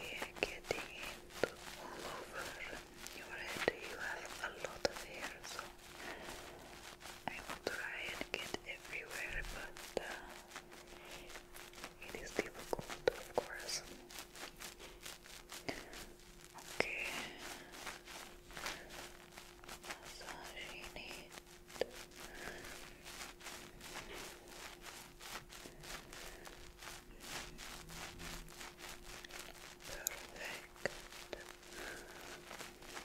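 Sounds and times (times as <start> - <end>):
faint steady hum: 0.0 - 33.0
fingertips rubbing a microphone: 0.0 - 33.0.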